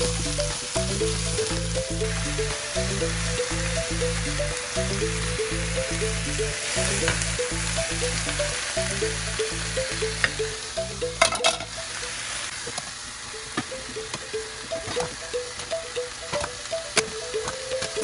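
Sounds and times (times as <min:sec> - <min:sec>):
onions sizzling in a pan: 0:00.0 - 0:18.0.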